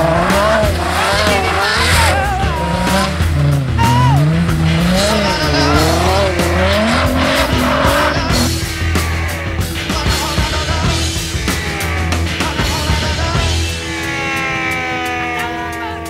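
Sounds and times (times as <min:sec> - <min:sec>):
background music: 0:00.0 - 0:16.0
tyres squealing: 0:00.0 - 0:16.0.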